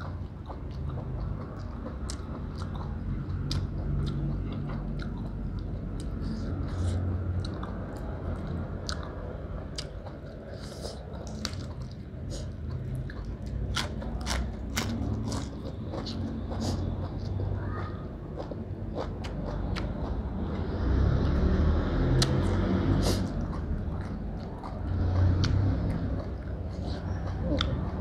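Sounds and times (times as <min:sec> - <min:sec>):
close-up chewing: 0:00.0 - 0:17.4, 0:23.0 - 0:28.0.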